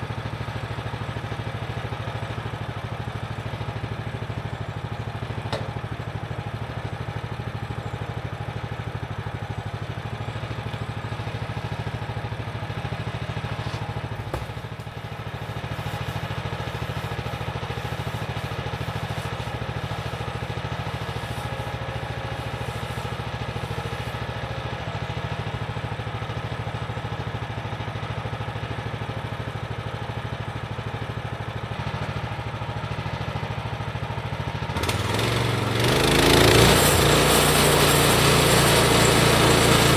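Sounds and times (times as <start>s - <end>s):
sawmill engine running: 0.1s - 39.9s.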